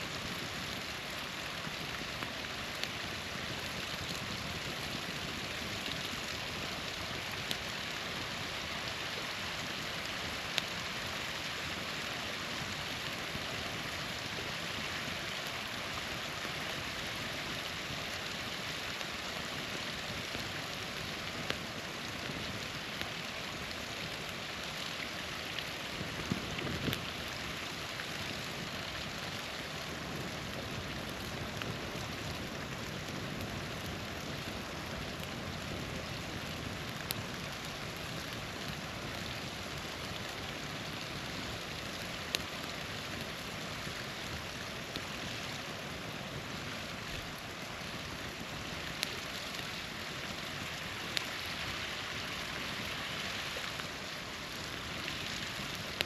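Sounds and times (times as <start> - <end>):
campfire crackling and popping: 0.0 - 56.0
small waterfall splashing: 0.0 - 56.0.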